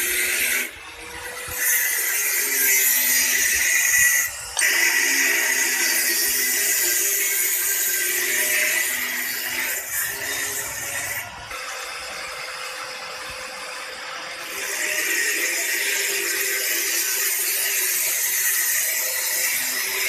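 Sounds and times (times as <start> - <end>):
angle grinder cutting metal: 0.0 - 20.0.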